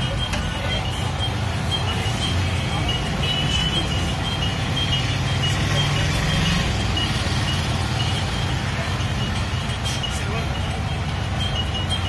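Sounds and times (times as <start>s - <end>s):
high broken beeping tone: 0.0s - 12.0s
street din with low rumble: 0.0s - 12.0s.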